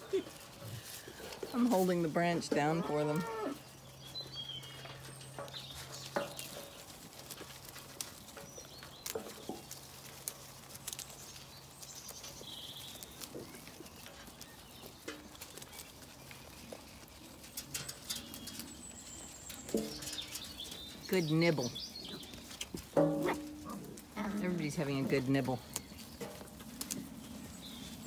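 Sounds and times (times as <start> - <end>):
leaves rustling: 0.0 - 28.0
sheep chewing leaves: 0.0 - 28.0.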